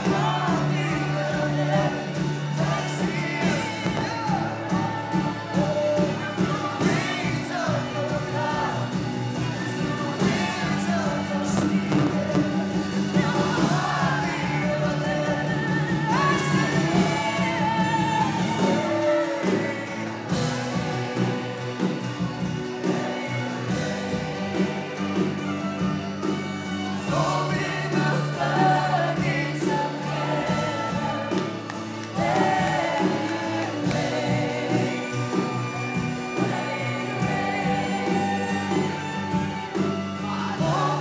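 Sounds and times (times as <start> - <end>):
band playing held chords: 0.0 - 41.0
voices singing together: 0.0 - 41.0.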